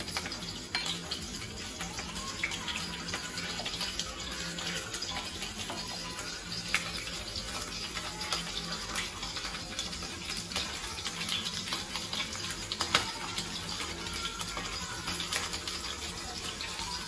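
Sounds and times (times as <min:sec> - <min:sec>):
soup pouring and splashing: 0:00.0 - 0:17.0.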